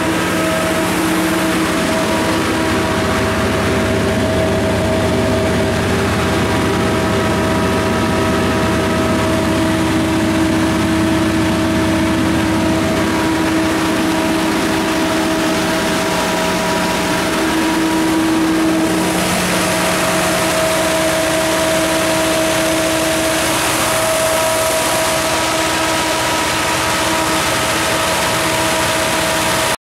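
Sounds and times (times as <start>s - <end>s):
diesel generator droning: 0.0s - 29.8s.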